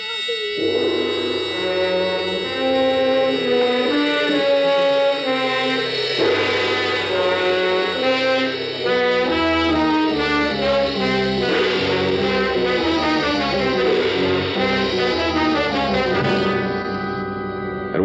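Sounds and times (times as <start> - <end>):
brass band playing held chords: 0.6 - 18.0.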